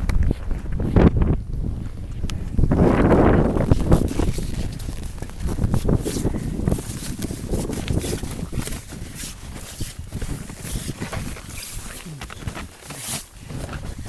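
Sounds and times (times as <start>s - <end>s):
wind buffeting microphone: 0.0s - 12.7s
footsteps crunching through snow: 0.0s - 14.0s.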